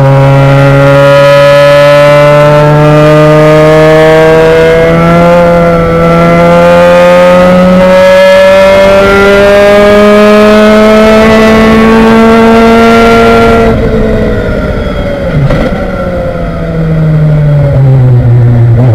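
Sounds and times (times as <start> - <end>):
race car engine accelerating: 0.0 - 18.9.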